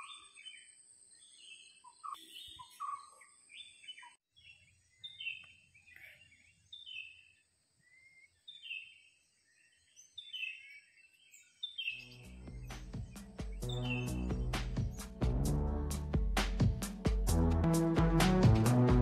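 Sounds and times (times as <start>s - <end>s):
birds chirping: 0.0s - 15.3s.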